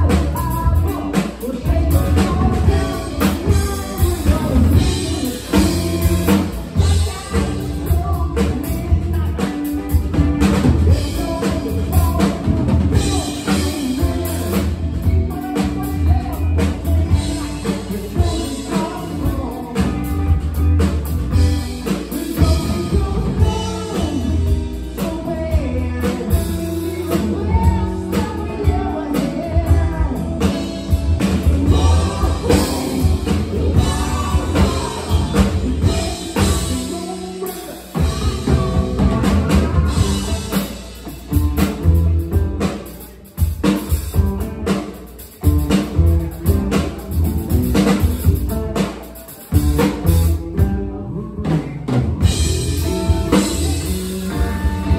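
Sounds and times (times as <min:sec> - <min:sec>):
drum kit: 0:00.0 - 0:54.9
electric bass: 0:00.0 - 0:54.9
electric guitar: 0:00.0 - 0:54.9
person singing: 0:00.0 - 0:54.9.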